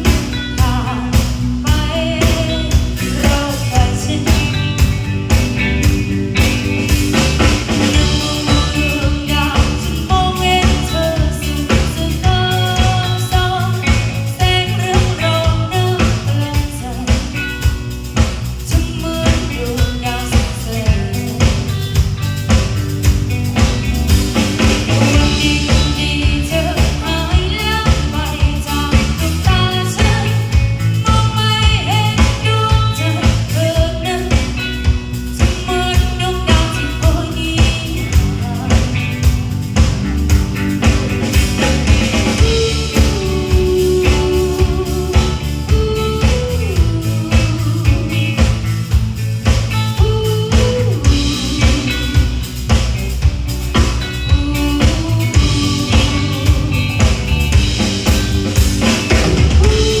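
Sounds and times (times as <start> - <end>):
bass: 0.0 - 60.0
drum kit beat: 0.0 - 60.0
guitar: 0.0 - 60.0.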